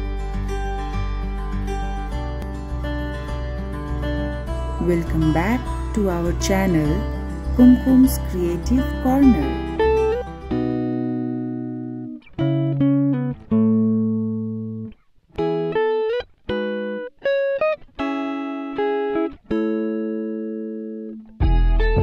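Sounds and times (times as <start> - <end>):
slow plucked melody: 0.0 - 22.0.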